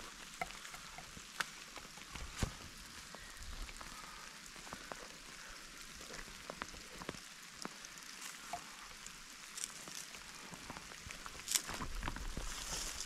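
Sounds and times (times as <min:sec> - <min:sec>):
rain falling: 0:00.0 - 0:13.0
sharp ticks of raindrops: 0:00.0 - 0:13.0.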